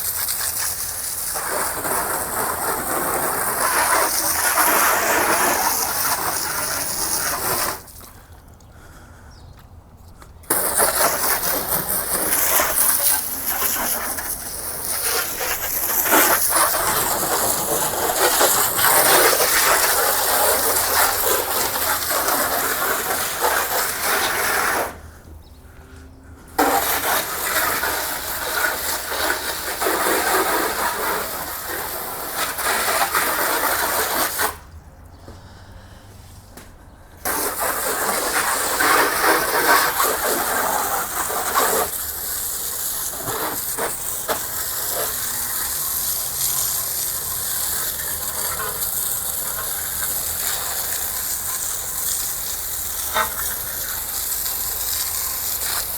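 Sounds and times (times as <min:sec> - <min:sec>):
water spraying over a car: 0:00.0 - 0:08.2, 0:10.4 - 0:25.1, 0:26.5 - 0:34.7, 0:37.2 - 0:55.9.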